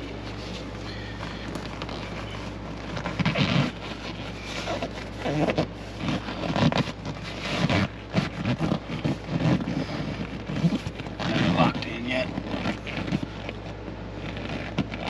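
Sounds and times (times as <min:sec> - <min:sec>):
seat upholstery rubbing and creaking: 0:00.0 - 0:15.0.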